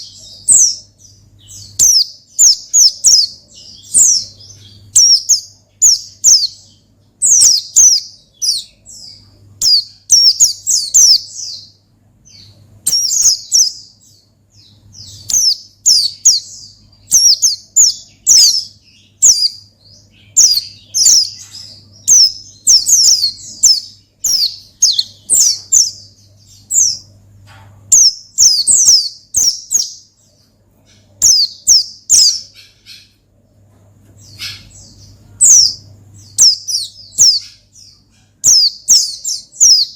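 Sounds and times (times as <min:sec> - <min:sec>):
bird singing rapid chirps: 0:00.0 - 0:33.4, 0:34.2 - 0:39.9.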